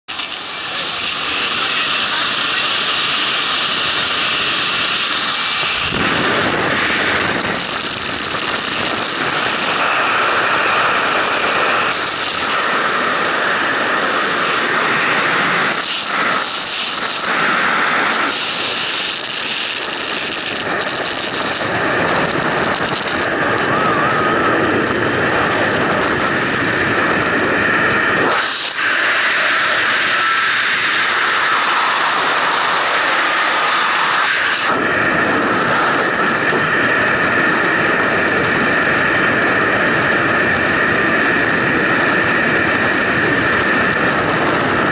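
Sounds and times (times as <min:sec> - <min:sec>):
plane engine: 0:00.1 - 0:44.9
wind rushing on microphone: 0:00.1 - 0:44.9.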